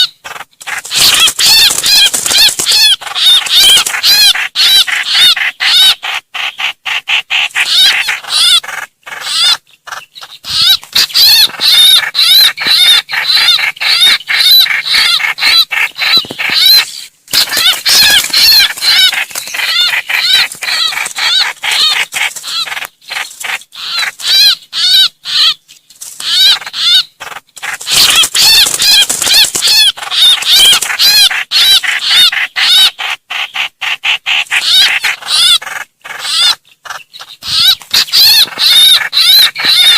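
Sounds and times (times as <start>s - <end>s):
bird giving high distress calls: 0.0s - 39.9s.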